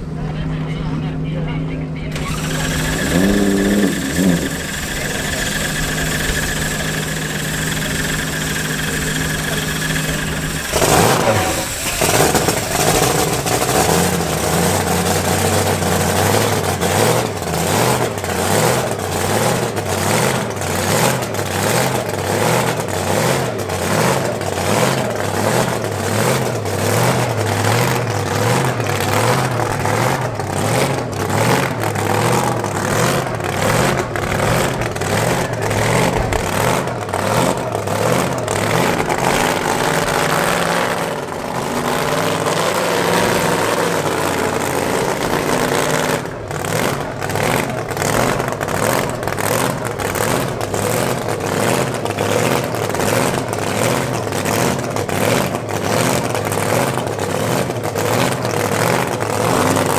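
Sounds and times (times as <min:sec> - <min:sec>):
loping drag-racing engine idling: 0:00.0 - 0:59.9.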